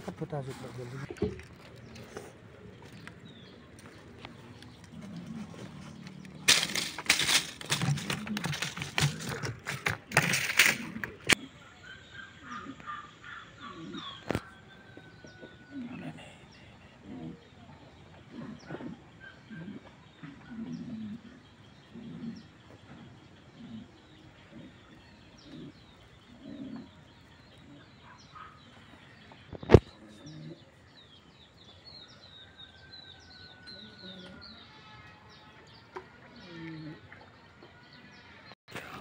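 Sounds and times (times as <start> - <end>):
birds chirping and calling: 0.0 - 39.0.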